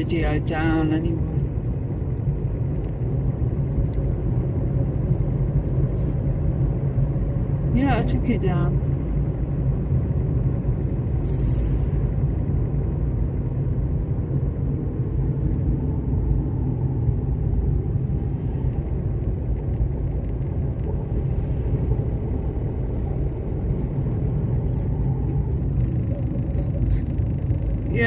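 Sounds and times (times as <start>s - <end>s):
car rumble: 0.0s - 28.0s.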